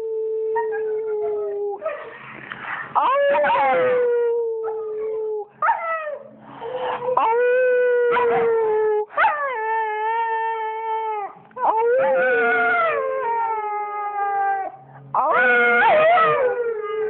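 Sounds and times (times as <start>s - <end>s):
dog howling: 3.0s - 17.0s.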